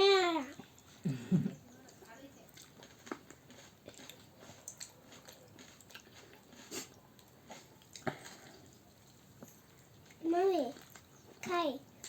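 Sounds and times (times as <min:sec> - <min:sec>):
people chewing and eating: 0:00.0 - 0:12.0.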